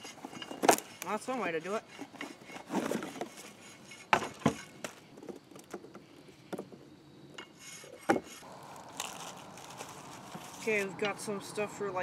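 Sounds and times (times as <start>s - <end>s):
light rubbing: 0.0s - 11.2s.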